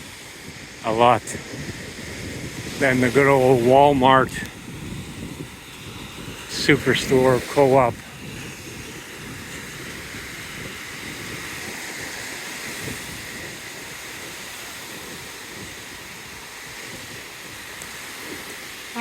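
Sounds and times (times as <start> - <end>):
ocean waves on beach: 0.0 - 19.0
wind on microphone: 0.0 - 19.0.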